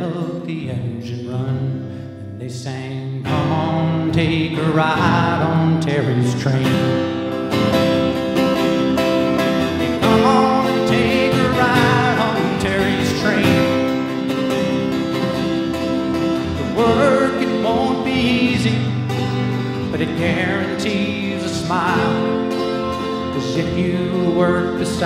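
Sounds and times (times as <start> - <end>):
man singing: 0.0 - 7.4, 9.7 - 15.4, 16.1 - 25.0
acoustic guitar strumming: 0.0 - 25.0.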